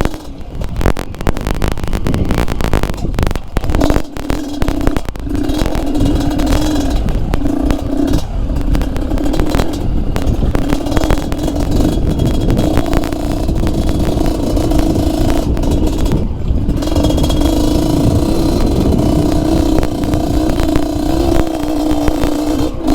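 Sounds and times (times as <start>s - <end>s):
bike rattling over rocks: 0.0s - 22.9s
two-stroke motorcycle engine: 0.0s - 22.9s.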